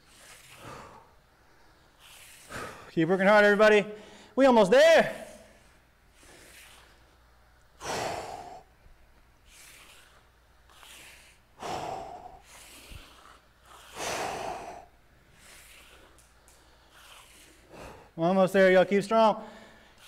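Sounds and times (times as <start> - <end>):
man breathing hard: 0.0 - 3.0, 5.3 - 18.2, 19.4 - 20.0.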